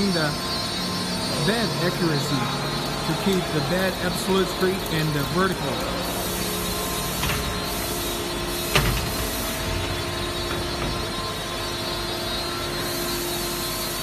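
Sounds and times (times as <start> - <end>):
milling machine running: 0.0 - 14.0.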